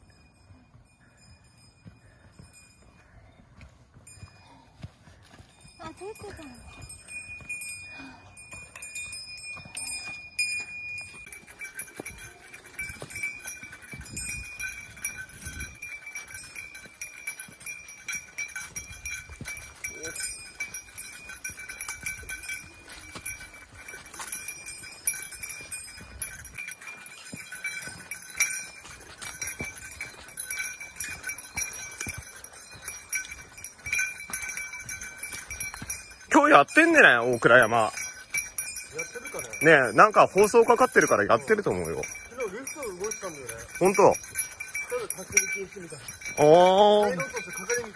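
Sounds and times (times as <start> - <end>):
footsteps on leafy dirt trail: 0.0 - 39.6
small bells jingling: 0.0 - 47.9.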